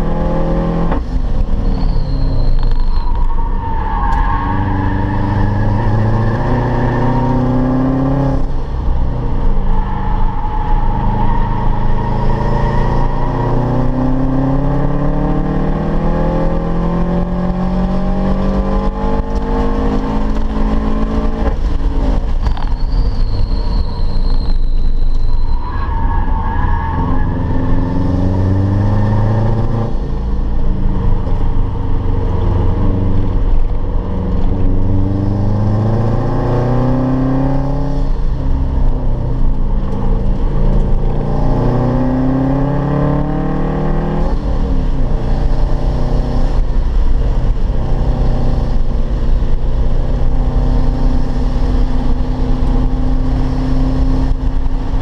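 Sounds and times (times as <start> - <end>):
car engine accelerating: 0.0 - 55.0
road and wind noise: 0.0 - 55.0.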